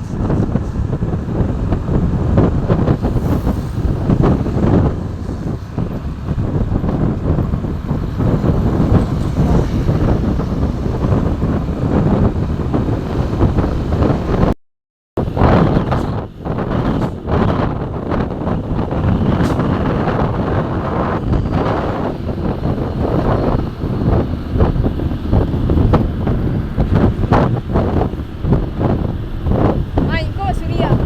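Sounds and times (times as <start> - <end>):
vehicle road rumble: 0.0 - 14.6, 15.2 - 31.0
wind buffeting microphone: 0.0 - 14.6, 15.2 - 31.0.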